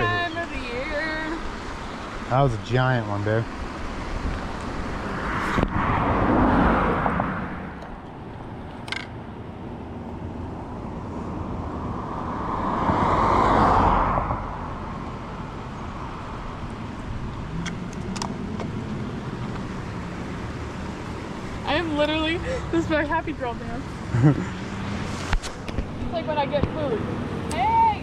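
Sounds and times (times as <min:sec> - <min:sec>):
road vehicles passing: 0:00.0 - 0:28.0.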